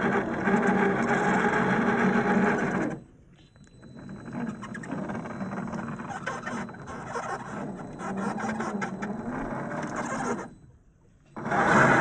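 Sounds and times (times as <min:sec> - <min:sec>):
electric motor and gears whirring: 0:00.0 - 0:10.7, 0:11.3 - 0:12.0.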